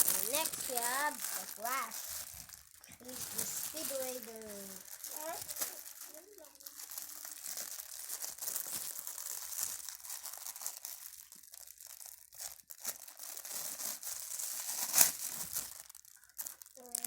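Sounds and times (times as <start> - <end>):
packaging being torn and crinkled: 0.0 - 17.0.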